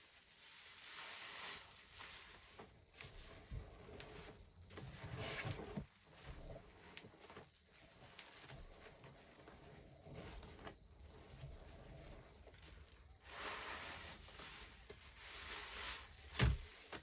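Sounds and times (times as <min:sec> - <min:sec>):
wet squishing of soapy sponge: 0:00.0 - 0:17.0.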